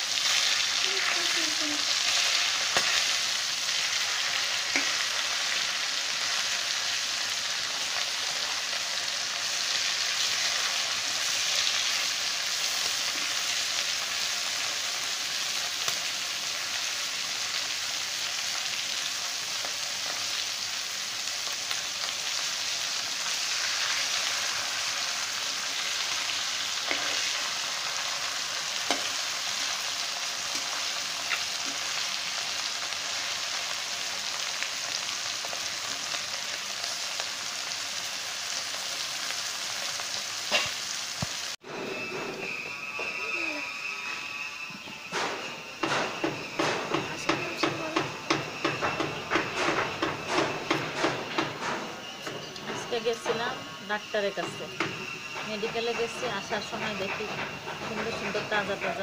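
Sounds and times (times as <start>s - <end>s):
fish sizzling in hot oil: 0.0s - 59.0s.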